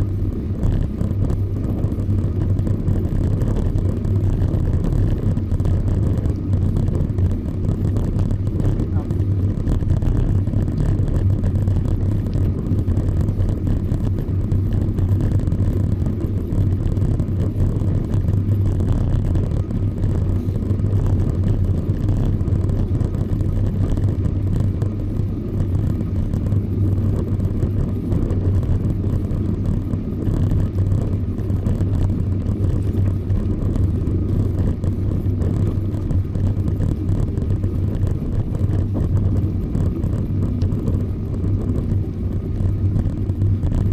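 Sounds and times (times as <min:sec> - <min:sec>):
wind and road noise from bicycle: 0:00.0 - 0:43.9.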